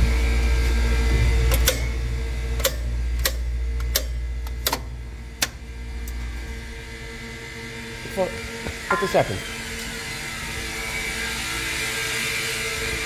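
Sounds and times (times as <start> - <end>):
refrigeration compressors humming: 0.0 - 13.0.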